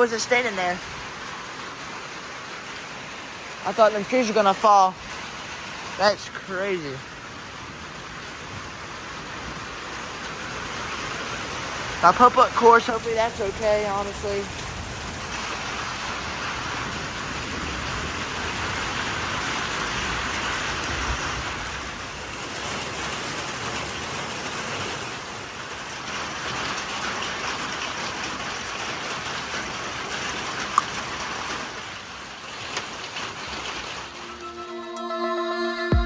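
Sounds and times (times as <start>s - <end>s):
steady rain hissing: 0.0s - 34.8s.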